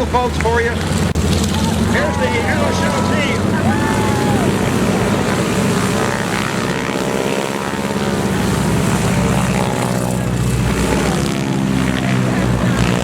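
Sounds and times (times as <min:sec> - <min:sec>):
propeller planes droning past: 0:00.0 - 0:13.0.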